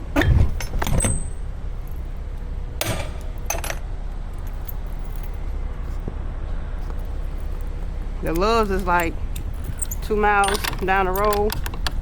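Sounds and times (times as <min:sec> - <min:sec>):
metallic clinks and rattles: 0:00.6 - 0:06.0, 0:06.9 - 0:12.0.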